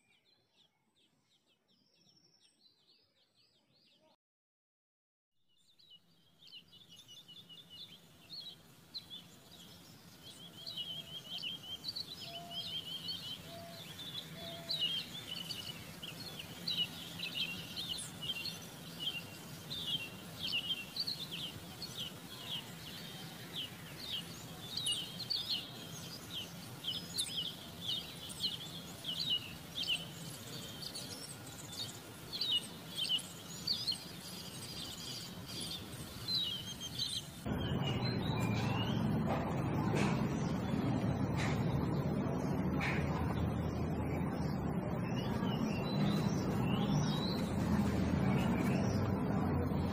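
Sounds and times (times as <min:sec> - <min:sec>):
small birds chirping: 0:00.0 - 0:04.2, 0:05.5 - 0:49.9.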